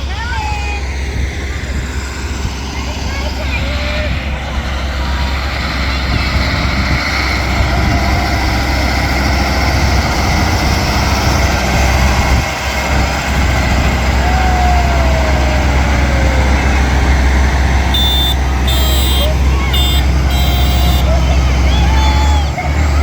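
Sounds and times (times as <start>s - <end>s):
tractor engines rumbling: 0.0s - 23.0s.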